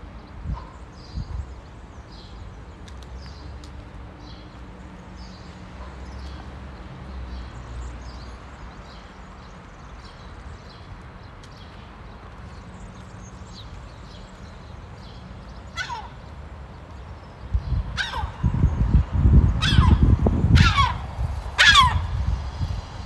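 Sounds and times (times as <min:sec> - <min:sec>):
city traffic hum: 0:00.0 - 0:23.0.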